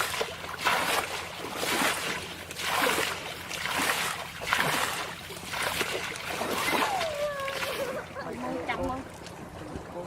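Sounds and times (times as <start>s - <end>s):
water splashing rhythmically: 0.0s - 10.0s.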